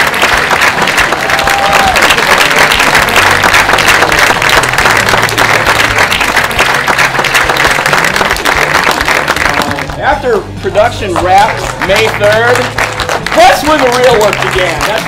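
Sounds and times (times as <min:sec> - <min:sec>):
audience applause: 0:00.0 - 0:10.0, 0:11.4 - 0:15.0.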